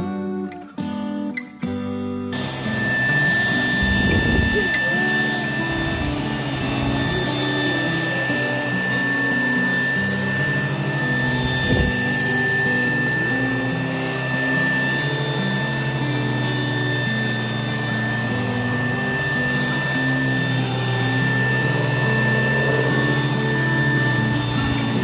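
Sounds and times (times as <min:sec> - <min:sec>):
vacuum cleaner motor whine: 0:02.3 - 0:25.0.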